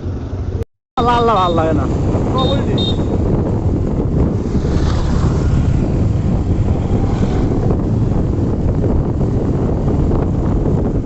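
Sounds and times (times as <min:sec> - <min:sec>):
motorcycle running: 0:00.0 - 0:11.0
wind buffeting microphone: 0:01.3 - 0:11.0.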